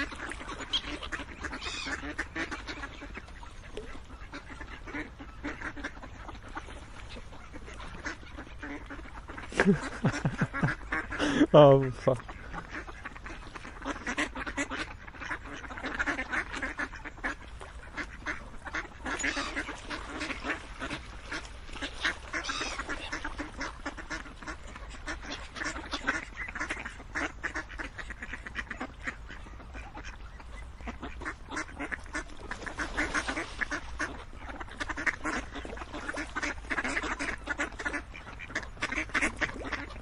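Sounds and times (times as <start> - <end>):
ducks quacking: 0.0 - 40.0.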